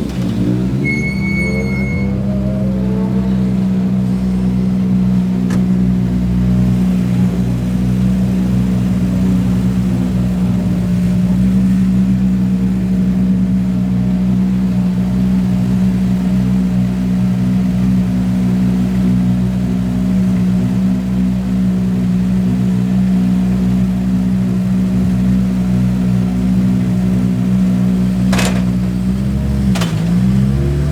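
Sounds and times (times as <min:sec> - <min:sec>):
engine humming steadily: 0:00.0 - 0:30.9.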